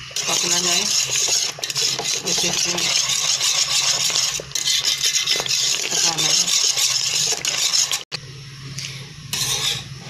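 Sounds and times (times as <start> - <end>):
whisk scraping in a pot: 0.0 - 8.1, 9.3 - 10.0.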